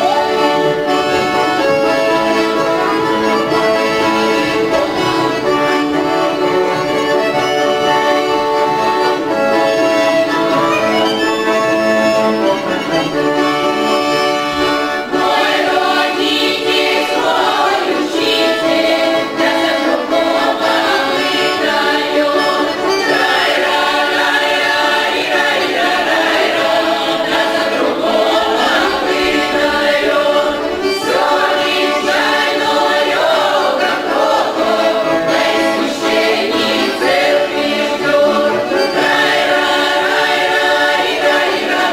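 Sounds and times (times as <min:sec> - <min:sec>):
accordion folk melody: 0:00.0 - 0:41.9
folk choir singing: 0:00.0 - 0:41.9.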